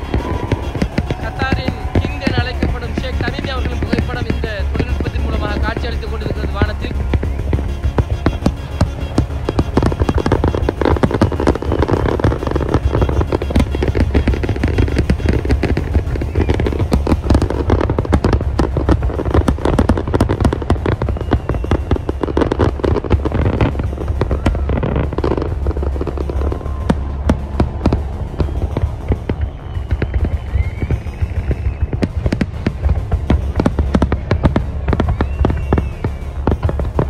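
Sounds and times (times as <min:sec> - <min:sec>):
fireworks bangs and crackles: 0:00.0 - 0:37.0
music playing: 0:00.0 - 0:37.0.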